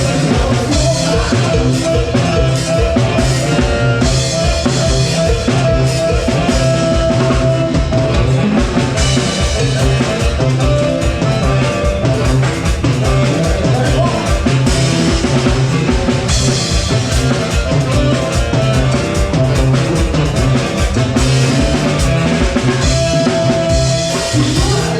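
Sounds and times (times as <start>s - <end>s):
rock music with drums and bass: 0.0s - 24.9s.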